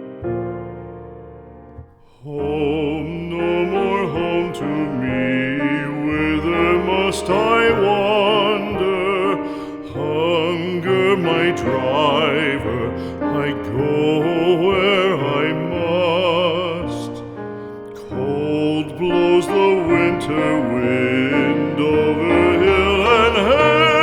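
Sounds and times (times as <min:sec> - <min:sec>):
piano accompaniment: 0:00.0 - 0:24.0
piano chord: 0:00.0 - 0:24.0
classical voice singing with vibrato: 0:01.8 - 0:24.0.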